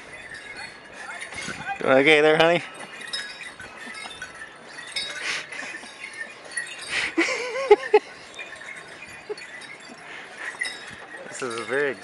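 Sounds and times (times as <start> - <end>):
small bells jingling: 0.0 - 12.0.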